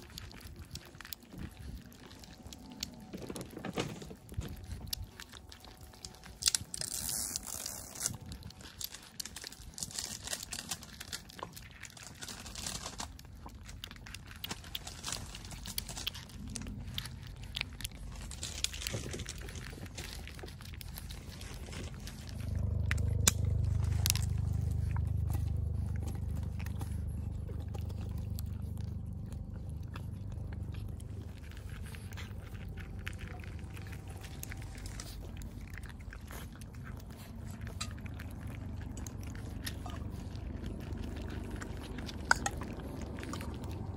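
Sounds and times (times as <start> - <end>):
cats crunching dry kibble: 0.0 - 43.9
low rumble: 0.0 - 43.9.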